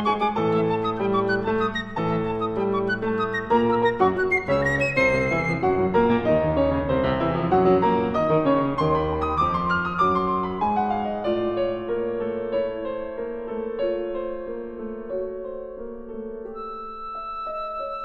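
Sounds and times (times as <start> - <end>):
classical piano playing: 0.0 - 18.0.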